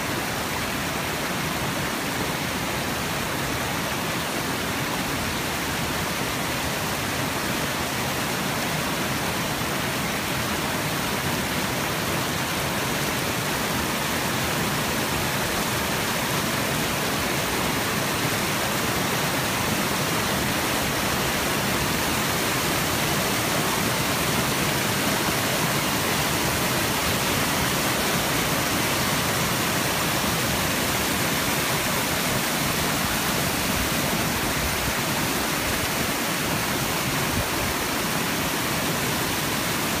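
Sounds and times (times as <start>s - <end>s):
waterfall splashing over rocks: 0.0s - 40.0s.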